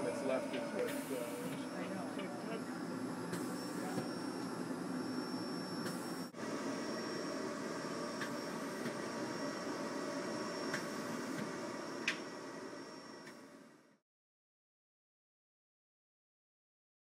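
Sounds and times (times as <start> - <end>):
faint high whine: 0.0 - 14.0
printer mechanical whir and hiss: 0.0 - 14.0.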